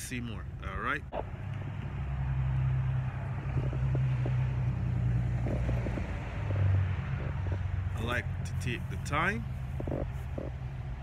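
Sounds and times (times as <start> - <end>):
low motor hum: 1.1 - 11.0.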